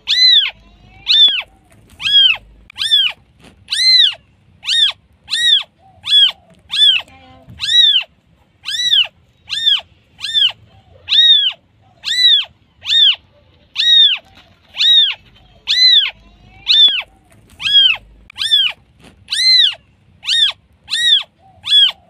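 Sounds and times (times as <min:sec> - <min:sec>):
kitten meowing: 0:00.0 - 0:22.0.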